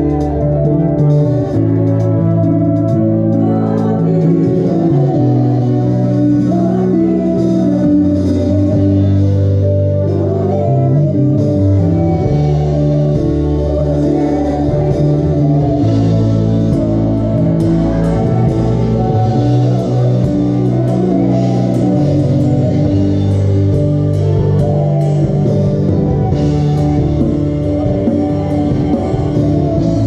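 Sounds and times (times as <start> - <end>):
drums and cymbals: 0.0 - 30.0
keyboard chords: 0.0 - 30.0
voices singing: 0.0 - 30.0.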